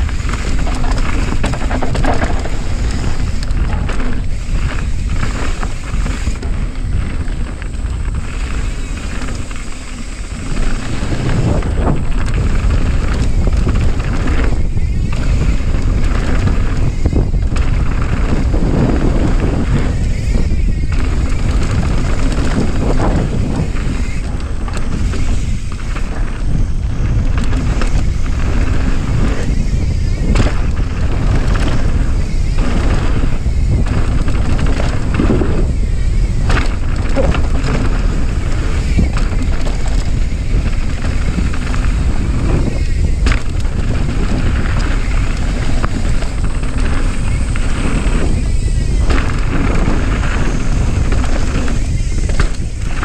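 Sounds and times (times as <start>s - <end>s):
bike knocks and rattles: 0.0s - 53.0s
tyres rolling on dirt: 0.0s - 53.0s
wind rumble on microphone: 0.0s - 53.0s.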